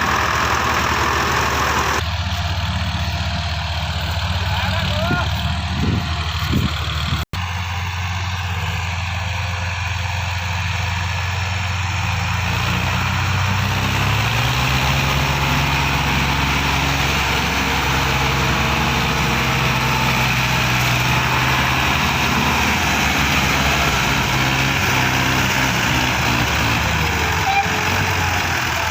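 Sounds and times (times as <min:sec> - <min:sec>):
diesel tractor engine running: 0:00.0 - 0:28.9.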